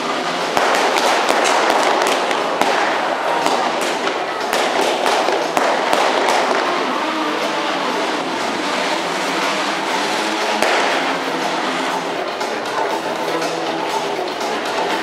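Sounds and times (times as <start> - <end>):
sharp bangs and crackles: 0.0 - 15.0.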